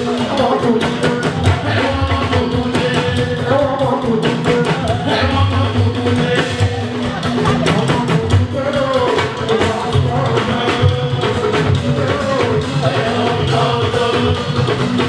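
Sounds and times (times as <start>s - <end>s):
drums and percussion: 0.0s - 15.0s
lead singer singing: 0.0s - 15.0s
steady bass line: 0.0s - 15.0s.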